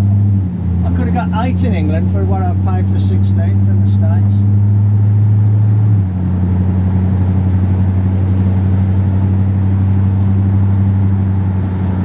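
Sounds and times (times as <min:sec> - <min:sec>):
car engine cruising: 0:00.0 - 0:12.0.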